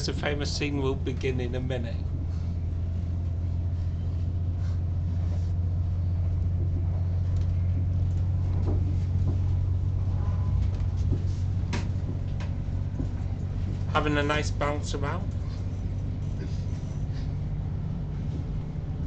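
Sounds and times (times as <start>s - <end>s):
train low rumble inside carriage: 0.0s - 19.0s
light knocks and rattles: 2.1s - 18.8s.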